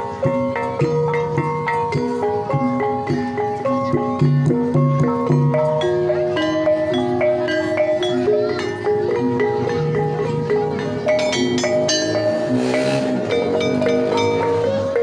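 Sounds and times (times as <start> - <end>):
gamelan music: 0.0 - 15.0.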